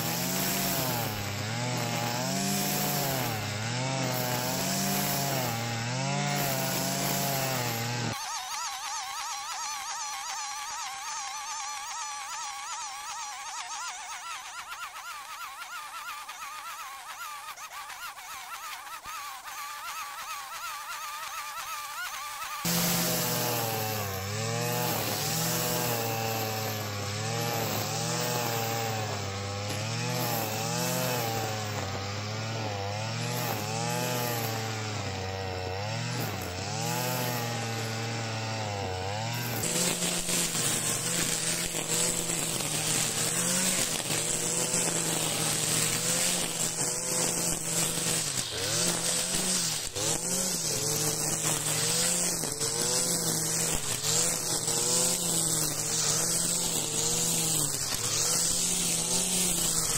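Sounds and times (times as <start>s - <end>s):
brushcutter engine cutting grass: 0.0s - 59.9s.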